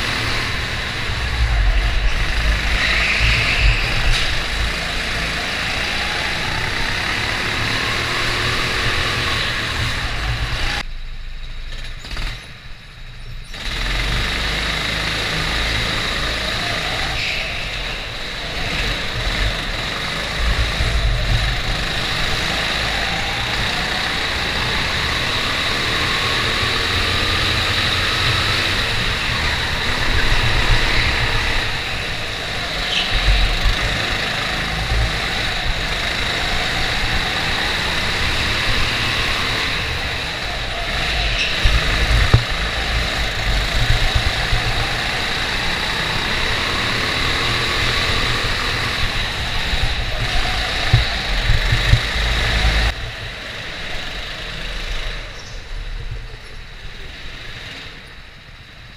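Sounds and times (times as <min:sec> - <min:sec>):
go-kart engine running: 0:00.0 - 0:11.0, 0:11.6 - 0:58.9.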